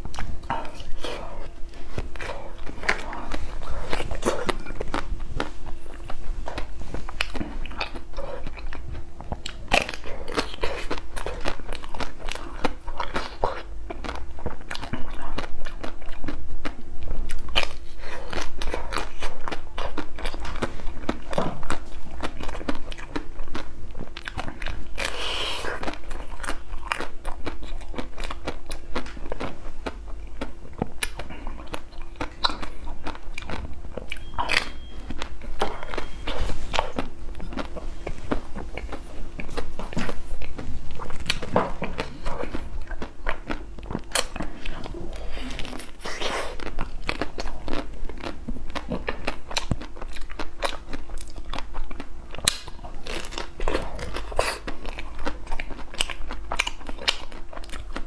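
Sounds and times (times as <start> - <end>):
chewing crunchy ice cream bar: 0.0 - 58.0
faint steady hum: 0.0 - 58.0.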